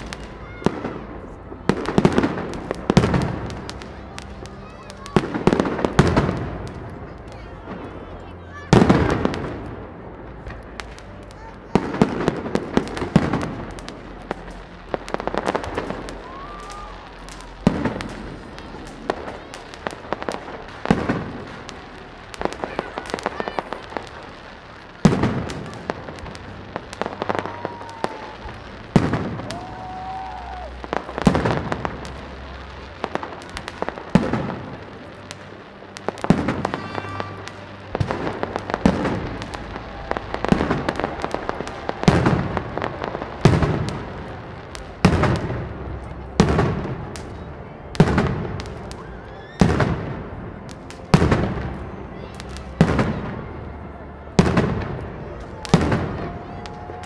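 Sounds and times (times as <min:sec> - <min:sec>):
fireworks bangs echoing: 0:00.0 - 0:49.0, 0:49.6 - 0:53.5, 0:54.2 - 0:57.0
fireworks crackling and popping: 0:00.0 - 0:57.0.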